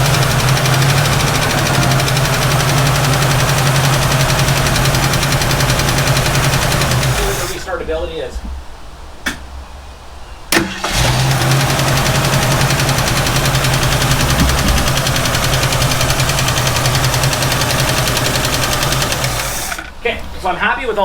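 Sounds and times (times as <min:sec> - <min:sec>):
car engine starting and idling: 0:00.0 - 0:08.0, 0:10.5 - 0:21.0.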